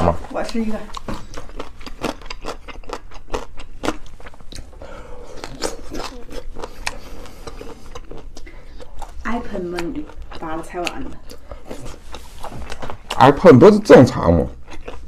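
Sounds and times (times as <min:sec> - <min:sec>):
crunchy chewing on bones: 0:00.0 - 0:15.0.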